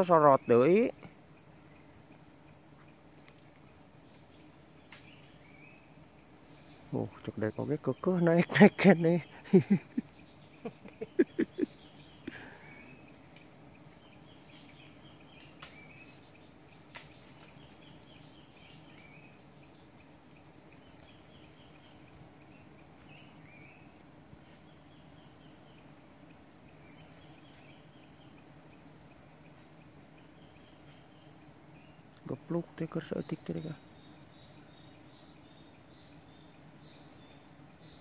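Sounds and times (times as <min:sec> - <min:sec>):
insect chirp phrases: 0:00.0 - 0:38.0
insects trilling: 0:00.0 - 0:38.0.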